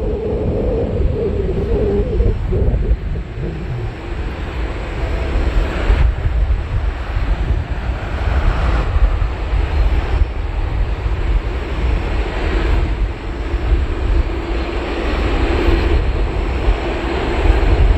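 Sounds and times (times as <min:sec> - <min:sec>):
jet engine rumble and hiss: 0:00.0 - 0:17.9.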